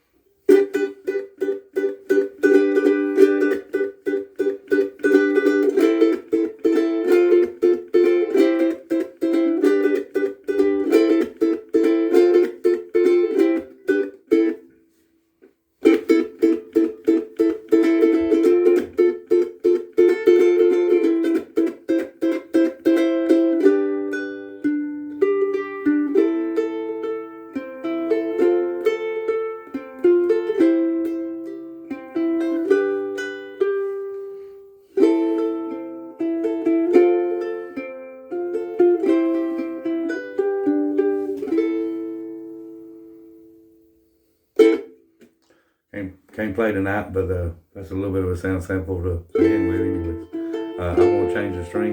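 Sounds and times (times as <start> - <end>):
ukulele chords and plucked notes: 0.0 - 45.8, 48.9 - 51.9.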